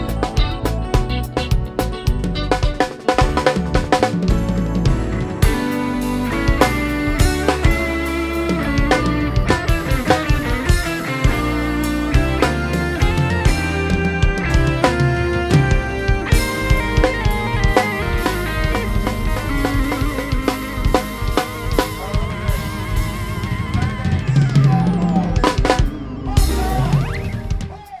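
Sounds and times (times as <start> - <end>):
drum-kit beat with held melody: 0.0 - 28.0
swooping pitch glide: 3.4 - 27.9.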